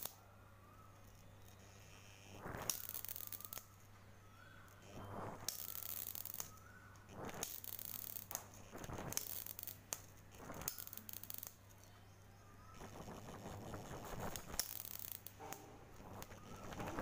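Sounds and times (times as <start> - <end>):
electric arc crackling and buzzing: 0.0 - 0.2, 0.9 - 3.9, 4.5 - 11.9, 12.6 - 17.0.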